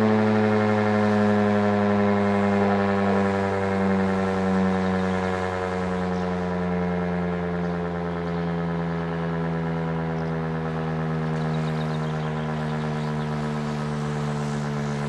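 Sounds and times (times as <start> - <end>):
motor siren wailing: 0.0 - 15.0.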